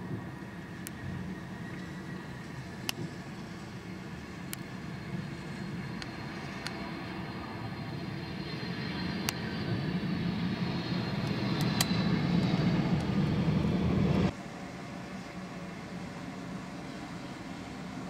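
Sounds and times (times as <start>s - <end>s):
high engine whine: 0.0s - 18.0s
jet engines rumbling: 0.0s - 18.0s.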